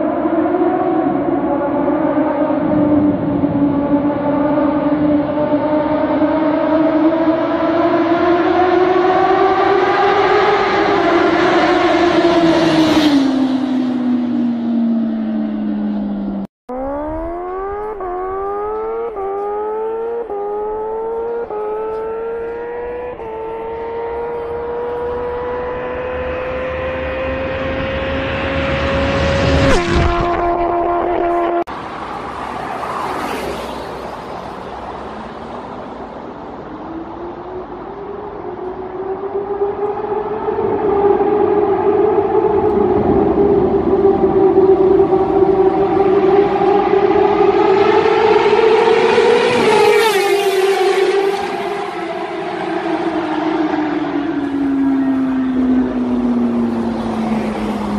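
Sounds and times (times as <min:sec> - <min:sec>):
motorcycle engine accelerating: 0:00.0 - 0:31.7, 0:36.9 - 0:57.9.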